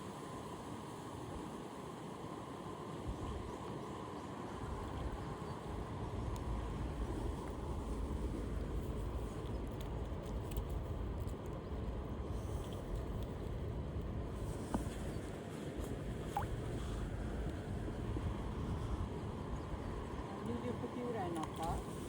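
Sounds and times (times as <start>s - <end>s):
wind rumble on microphone: 3.0s - 22.0s.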